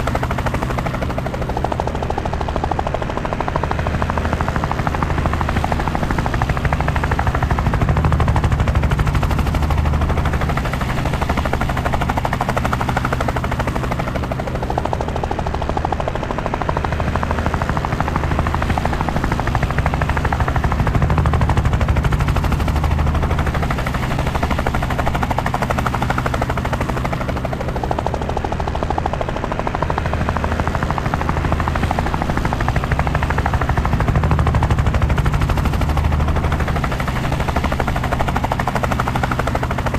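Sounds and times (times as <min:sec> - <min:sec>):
helicopter rotor chopping: 0:00.0 - 0:39.9.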